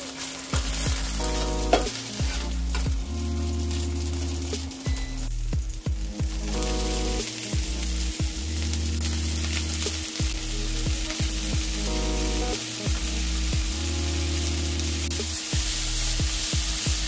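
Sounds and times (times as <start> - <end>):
dumplings sizzling in a frying pan: 0.0 - 17.0.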